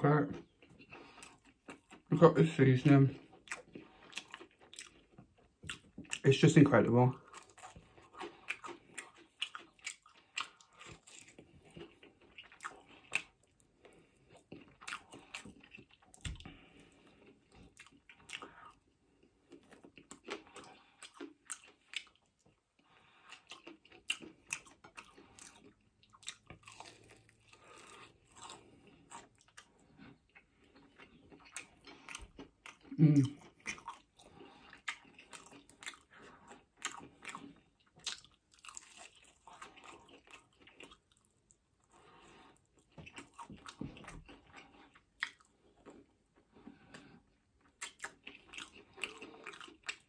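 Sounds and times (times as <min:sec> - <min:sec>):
chewing crispy chicken wings: 0:00.0 - 0:50.0.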